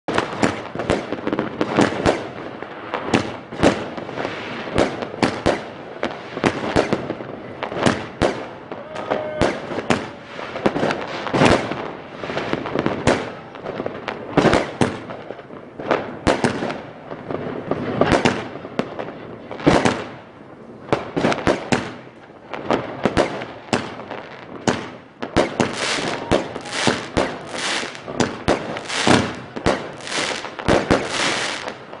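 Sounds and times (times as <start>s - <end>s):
fireworks bangs: 0.1s - 32.0s
fireworks crackling: 0.1s - 32.0s.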